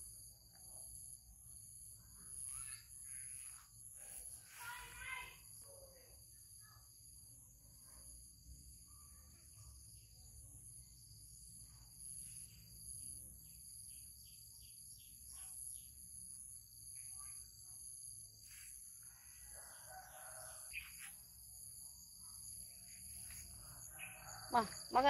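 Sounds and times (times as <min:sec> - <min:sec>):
faint chirps: 0:00.0 - 0:25.0
insect drone: 0:00.0 - 0:25.0.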